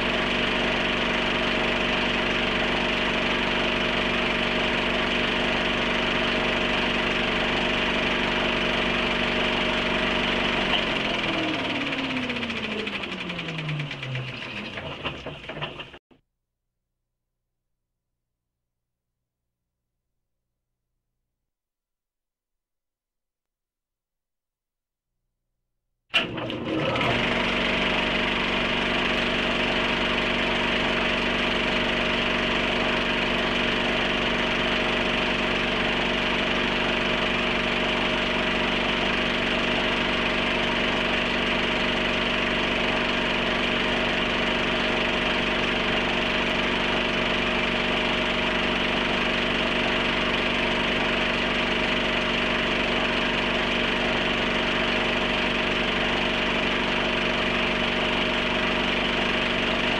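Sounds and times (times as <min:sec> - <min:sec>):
film projector whirring: 0:00.0 - 0:16.0, 0:26.2 - 0:59.9.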